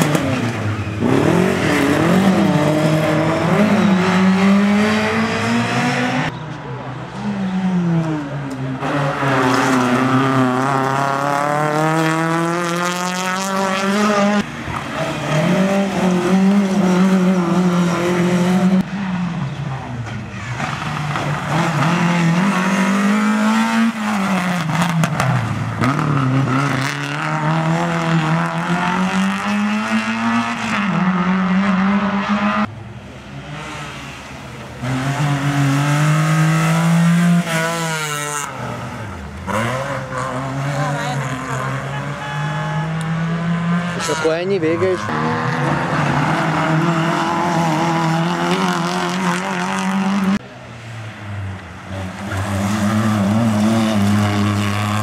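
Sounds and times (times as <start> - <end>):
racing car engines accelerating: 0.0 - 55.0.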